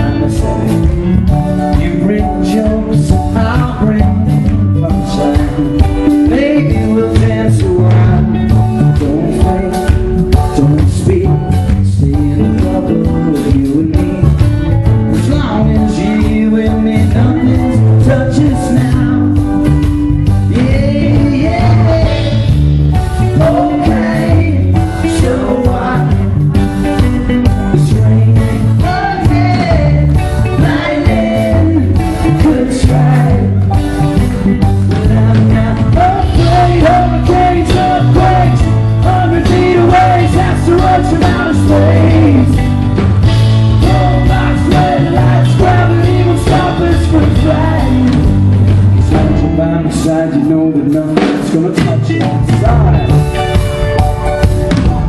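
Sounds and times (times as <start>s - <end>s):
pop-rock band playing loudly: 0.0s - 55.0s
sung melody line: 0.0s - 55.0s.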